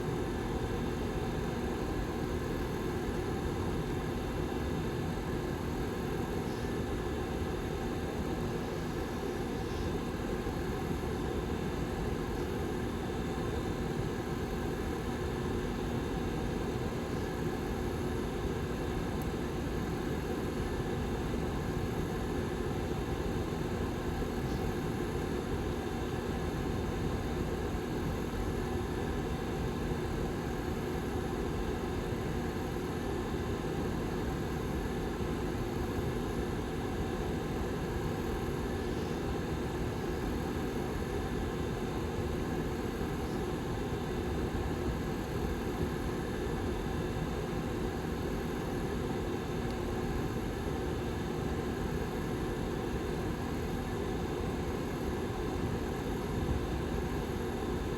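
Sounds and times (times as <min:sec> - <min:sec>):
heater fan running: 0:00.0 - 0:57.9.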